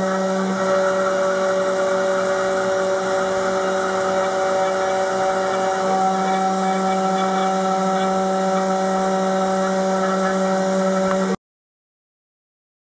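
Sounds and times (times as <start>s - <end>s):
spindle motor milling wood: 0.0s - 11.4s.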